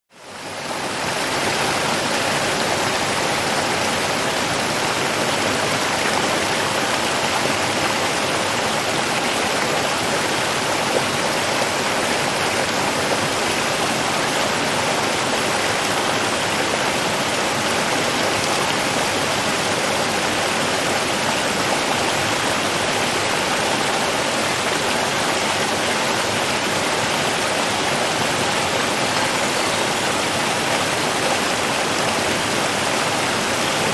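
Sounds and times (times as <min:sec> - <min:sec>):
running water rushing: 0:00.2 - 0:33.9.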